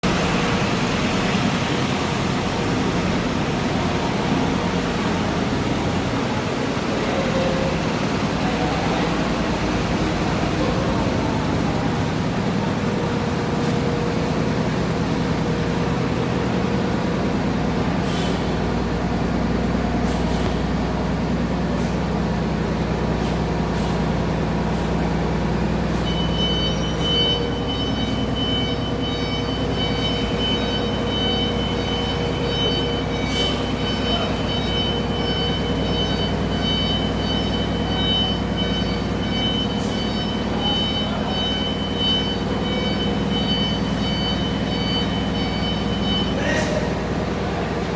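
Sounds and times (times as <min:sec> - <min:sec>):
diesel bus engine running: 0:00.0 - 0:47.9.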